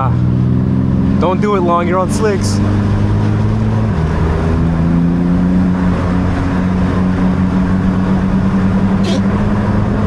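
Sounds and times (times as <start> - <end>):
car engine running from inside: 0.0 - 10.0.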